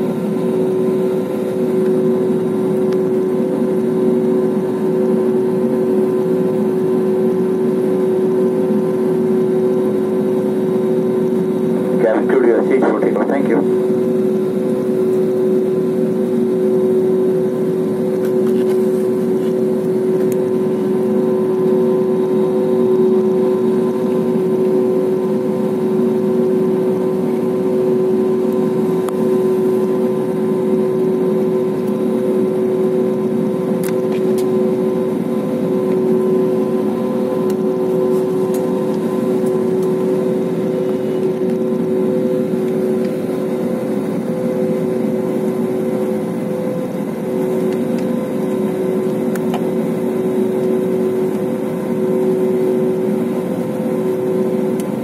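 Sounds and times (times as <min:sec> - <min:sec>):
jet engine hum in cabin: 0:00.0 - 0:55.0.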